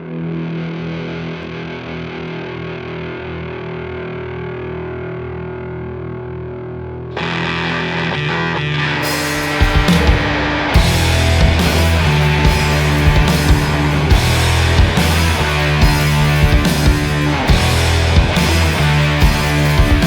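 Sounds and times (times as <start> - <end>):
distorted electric guitar droning: 0.0 - 20.0.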